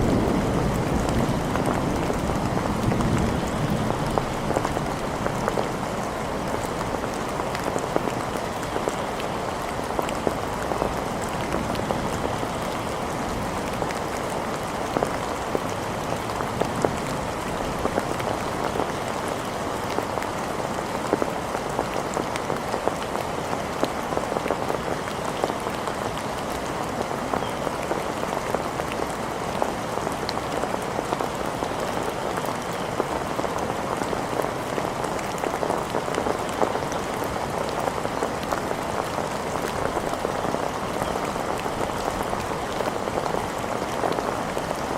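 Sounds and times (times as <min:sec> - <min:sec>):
rain pattering on hard surfaces: 0:00.0 - 0:44.9.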